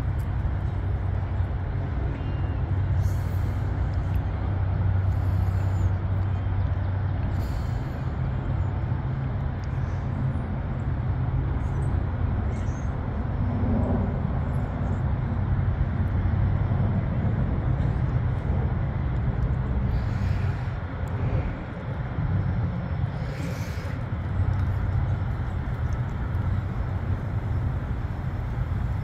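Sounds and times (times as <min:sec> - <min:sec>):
diesel engines droning: 0:00.0 - 0:29.0.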